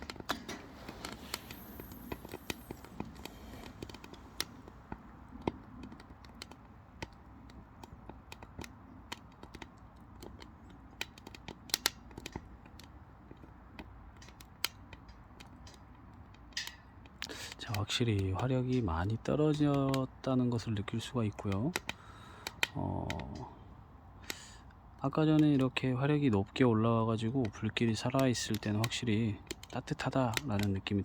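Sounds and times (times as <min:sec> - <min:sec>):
logs crackling and popping: 0:00.0 - 0:31.0.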